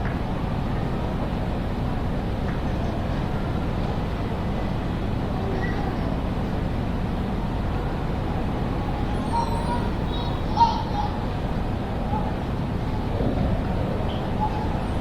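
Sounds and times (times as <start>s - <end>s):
distant voices: 0.8s - 15.0s.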